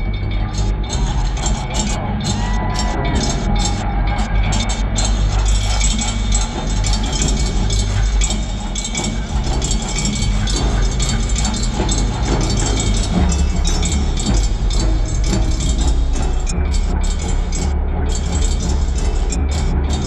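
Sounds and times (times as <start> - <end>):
deep low rumble: 0.0 - 20.0
drum and percussion hits: 0.0 - 20.0.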